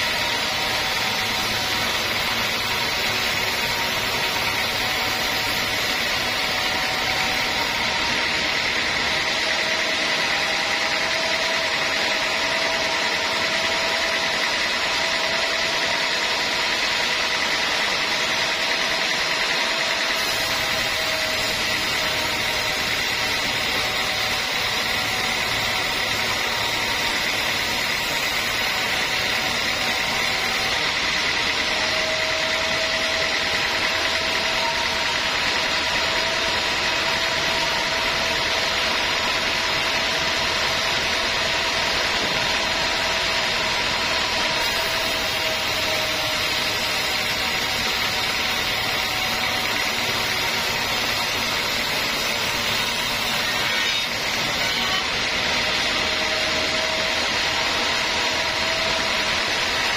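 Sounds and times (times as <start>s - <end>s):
band saw cutting wood: 0.0s - 59.9s.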